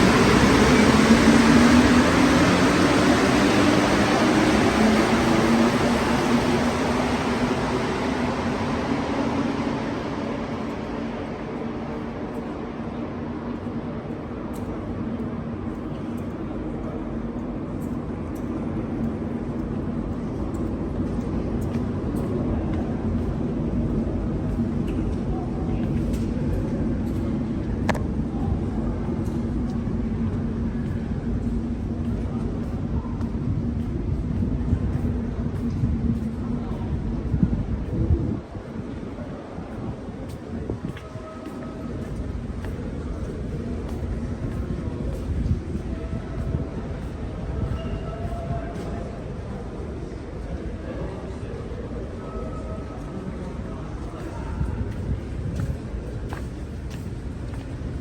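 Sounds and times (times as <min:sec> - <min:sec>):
metro train rumbling: 0:00.0 - 0:58.0.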